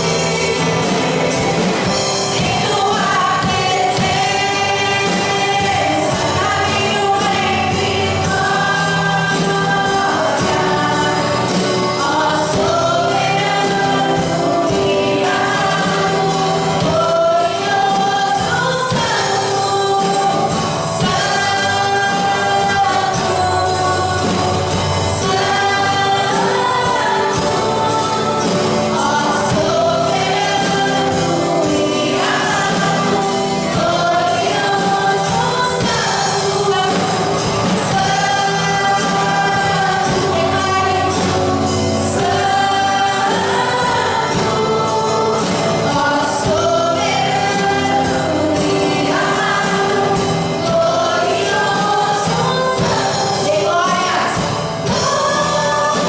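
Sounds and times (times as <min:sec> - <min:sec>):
group singing praise song: 0:00.0 - 0:56.0
instrumental accompaniment: 0:00.0 - 0:56.0.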